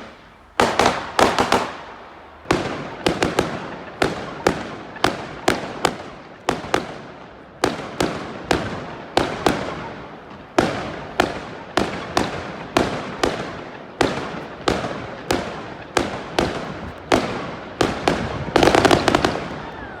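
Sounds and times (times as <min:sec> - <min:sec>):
firework bangs echoing: 0:00.0 - 0:20.0
firework crackling: 0:00.0 - 0:20.0.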